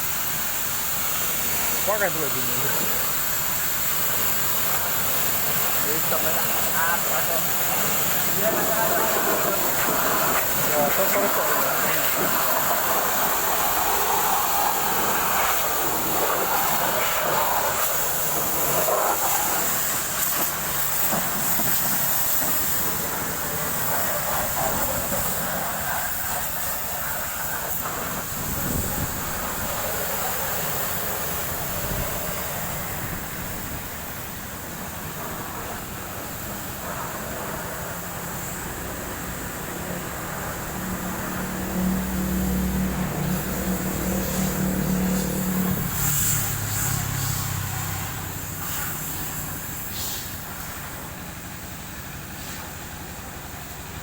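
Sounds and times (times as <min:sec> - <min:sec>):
high-pressure water spray hissing: 0:00.0 - 0:54.0.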